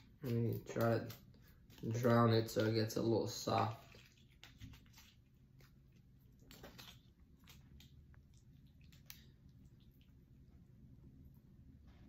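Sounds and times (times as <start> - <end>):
plastic spoon stirring soup: 0.0 - 10.8.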